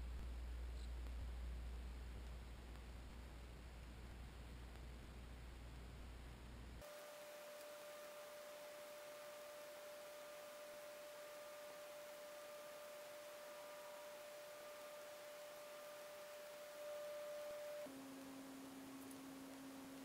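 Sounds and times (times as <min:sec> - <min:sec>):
light hiss: 0:00.0 - 0:20.0
steady pure tone: 0:00.0 - 0:20.0.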